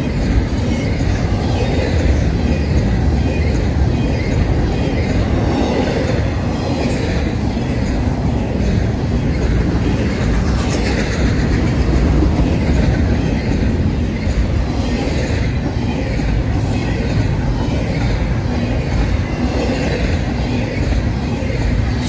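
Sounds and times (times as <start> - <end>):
freight train wheels rumbling on rail: 0.0 - 22.0.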